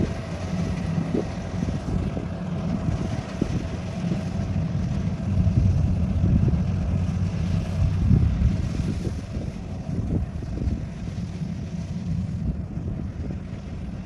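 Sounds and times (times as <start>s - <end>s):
machine engine running: 0.0s - 14.0s.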